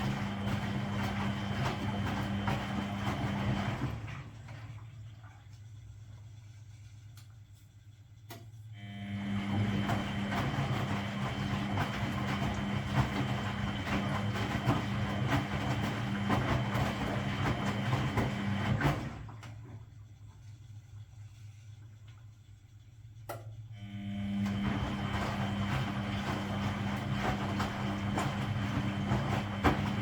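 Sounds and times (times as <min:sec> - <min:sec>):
drain pump humming and gurgling: 0:00.0 - 0:30.0.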